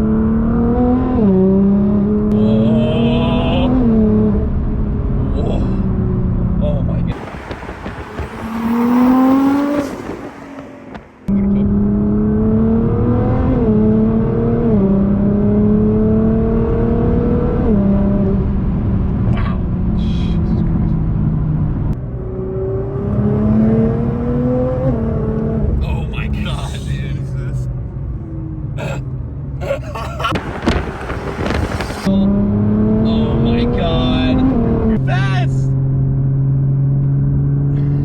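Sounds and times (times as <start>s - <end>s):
car engine accelerating: 0.0s - 35.1s.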